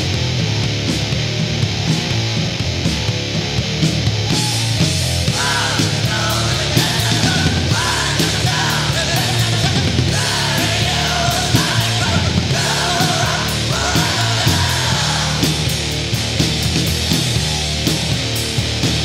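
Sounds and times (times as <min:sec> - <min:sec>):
heavy rock music: 0:00.0 - 0:19.0.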